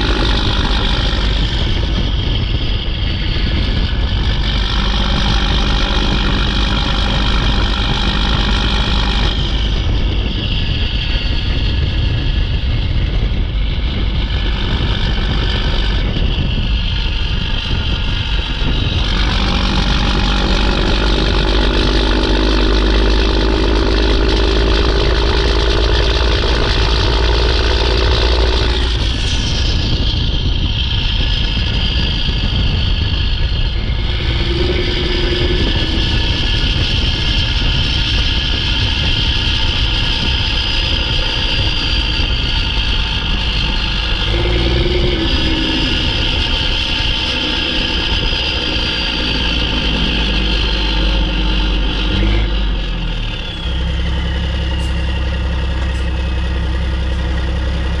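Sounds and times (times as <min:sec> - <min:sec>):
diesel truck engine under load: 0:00.0 - 0:58.0
turbo whistling: 0:00.0 - 0:58.0.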